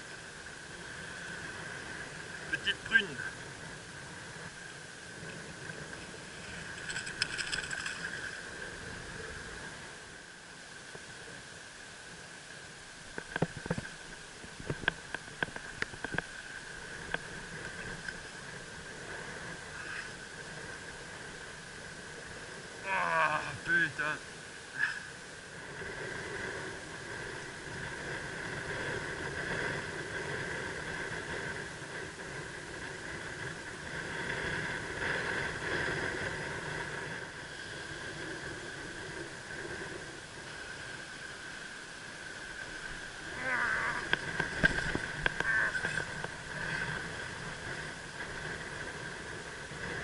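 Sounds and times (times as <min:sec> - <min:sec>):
sea: 0:00.0 - 0:50.0
water noise: 0:00.0 - 0:50.0
wind: 0:00.0 - 0:50.0.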